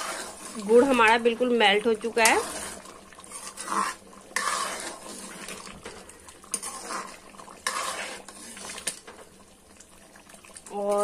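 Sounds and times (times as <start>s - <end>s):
metal spoon scraping a pan: 0.0s - 9.2s.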